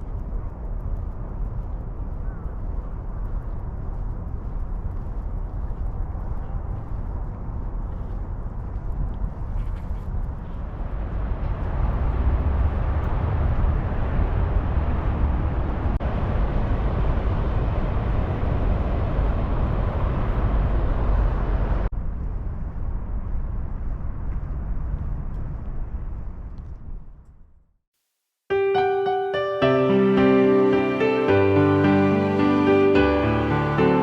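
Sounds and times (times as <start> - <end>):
outdoor low rumbling: 0.0 - 27.7.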